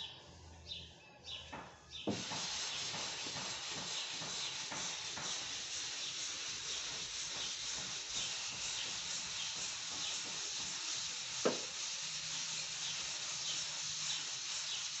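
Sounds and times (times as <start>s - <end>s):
sandpaper scraping metal: 2.1s - 15.0s.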